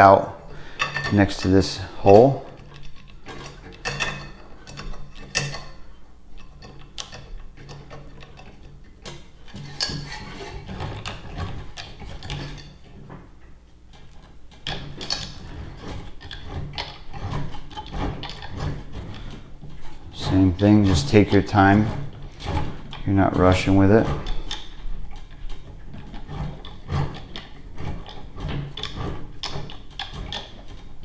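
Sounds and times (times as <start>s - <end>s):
tubing cutter scoring pipe: 0.0s - 31.0s.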